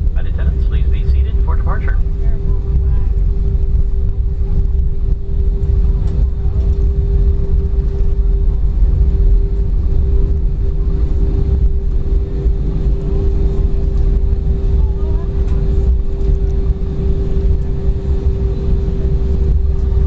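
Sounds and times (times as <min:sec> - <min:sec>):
low rumble of engines and wheels: 0:00.0 - 0:20.0
mid-pitched cabin hum: 0:00.0 - 0:20.0.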